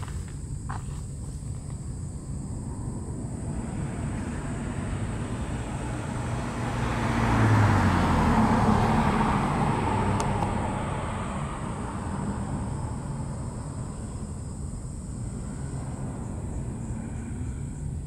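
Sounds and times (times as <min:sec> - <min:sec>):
vehicle passing by: 0:02.4 - 0:18.0.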